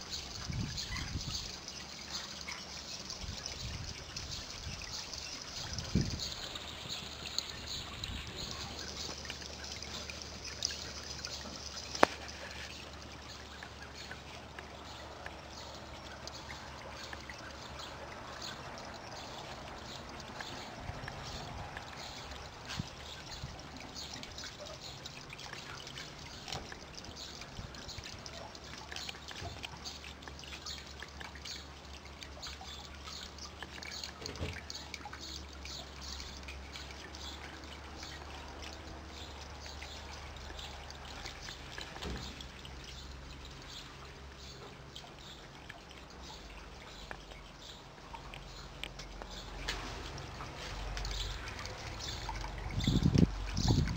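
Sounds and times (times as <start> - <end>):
water trickling: 0.0 - 53.9.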